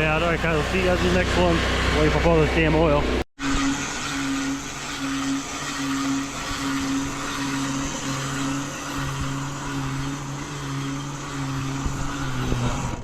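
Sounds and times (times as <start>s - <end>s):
pressure washer engine hum: 0.0s - 13.0s.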